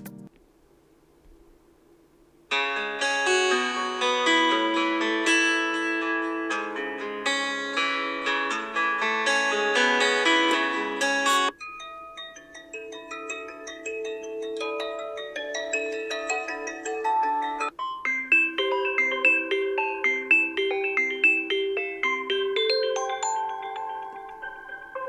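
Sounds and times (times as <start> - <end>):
plucked guitar-like ringtone melody: 2.5 - 25.0.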